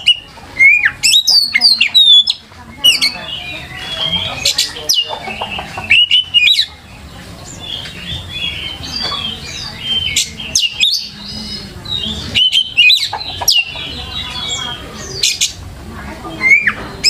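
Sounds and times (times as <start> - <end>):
bird singing whistles and chatter: 0.0 - 17.0.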